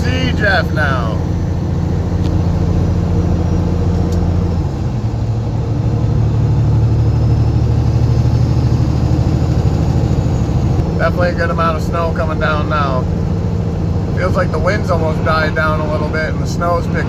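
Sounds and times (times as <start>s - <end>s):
truck diesel engine from cab: 0.0s - 17.0s.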